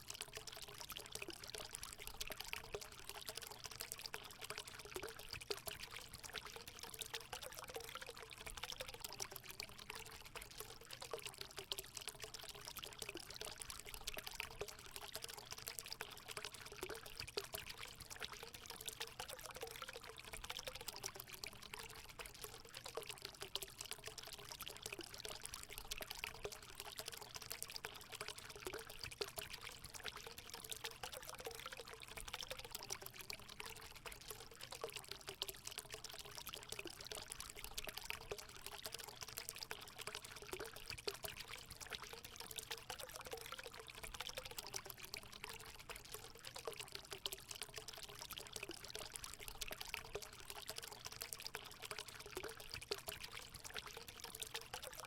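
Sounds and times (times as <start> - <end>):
water running into a pool: 0.0 - 55.0.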